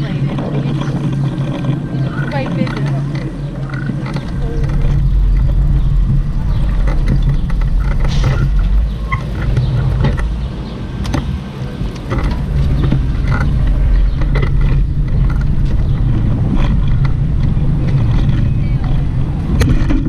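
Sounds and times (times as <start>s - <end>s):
bicycle clicks and rattles: 0.0s - 10.3s, 11.0s - 20.0s
car traffic rumble: 0.0s - 20.0s
wind on microphone: 0.0s - 20.0s.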